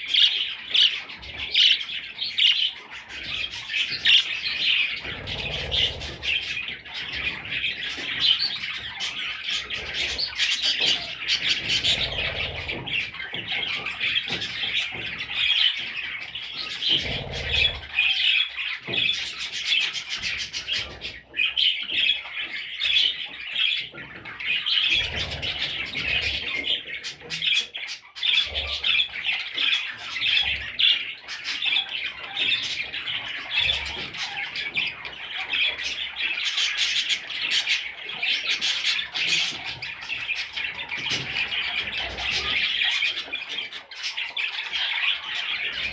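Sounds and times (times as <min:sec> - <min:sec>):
bird chicks chirping and squawking: 0:00.0 - 0:45.9.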